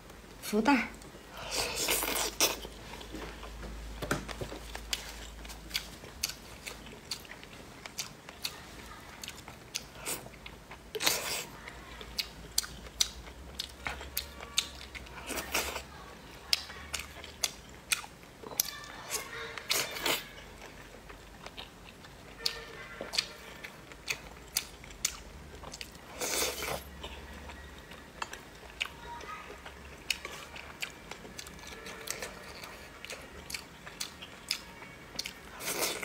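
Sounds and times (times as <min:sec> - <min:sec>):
chewing with small sharp clicks: 0:04.7 - 0:36.0.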